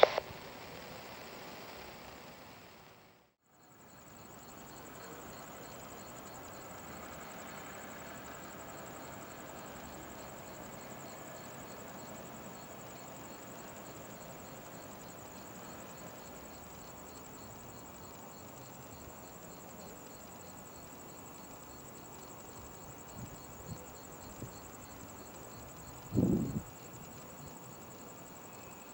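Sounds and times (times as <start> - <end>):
faint background hiss: 0.0 - 28.9
insects chirping: 3.4 - 28.9.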